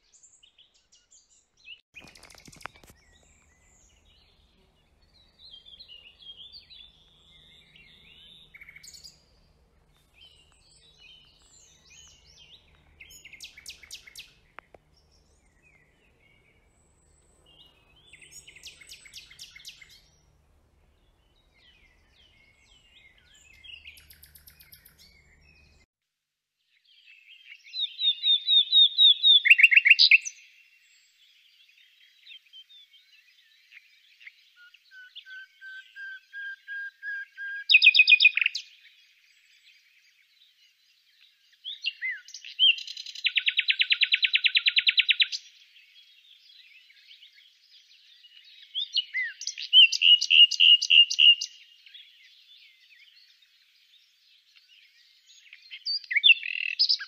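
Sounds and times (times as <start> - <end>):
nightingale singing: 0.0 - 25.8, 26.9 - 57.0.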